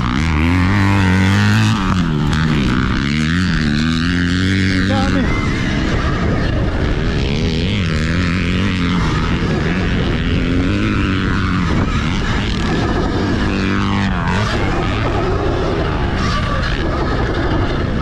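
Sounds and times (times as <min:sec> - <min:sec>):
dirt bike engines racing: 0:00.0 - 0:18.0.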